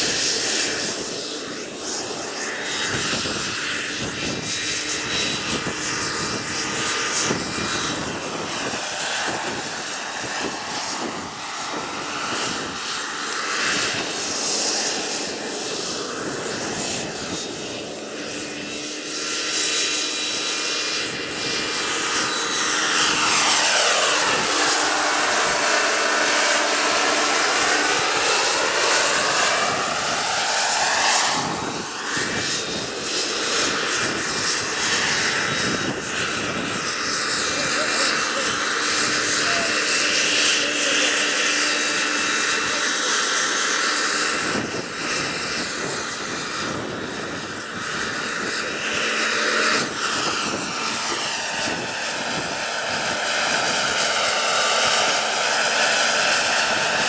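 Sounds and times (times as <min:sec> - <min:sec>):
model helicopter turbine and rotor: 0:00.0 - 0:57.0.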